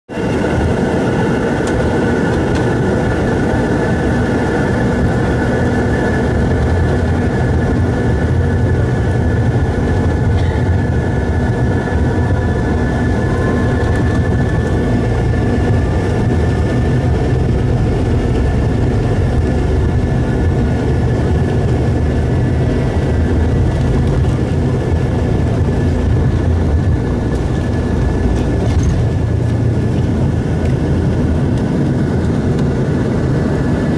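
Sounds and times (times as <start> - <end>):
faint rising engine whine: 0.1 - 33.9
jet engines rumbling in cabin: 0.1 - 33.9.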